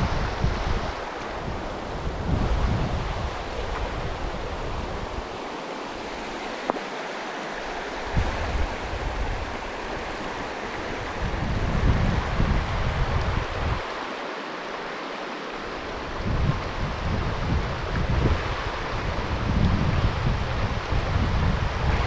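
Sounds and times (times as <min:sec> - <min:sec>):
wind buffeting microphone: 0:00.0 - 0:13.9, 0:15.7 - 0:22.0
creek running over stones: 0:00.0 - 0:21.0.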